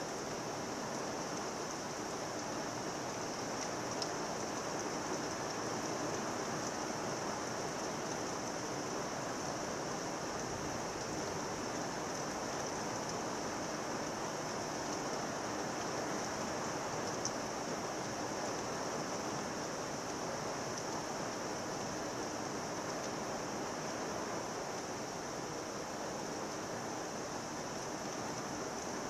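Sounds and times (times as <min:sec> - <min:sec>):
heavy rain on leafy trees: 0:00.0 - 0:29.0.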